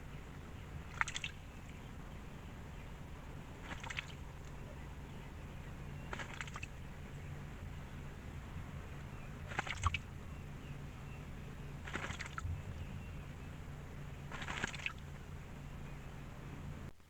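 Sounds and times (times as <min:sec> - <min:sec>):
steady low hum: 0:00.0 - 0:17.0
birds scratchy calls: 0:00.1 - 0:16.9.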